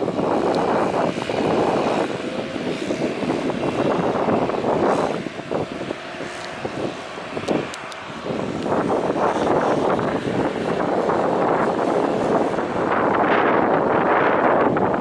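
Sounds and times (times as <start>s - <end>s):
faint jet engine whine: 0.0s - 15.0s
wind buffeting microphone: 0.0s - 15.0s.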